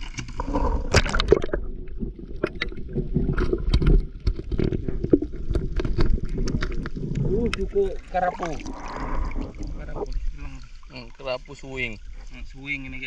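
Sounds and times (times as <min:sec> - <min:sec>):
water splashing and gurgling: 0:00.0 - 0:13.0.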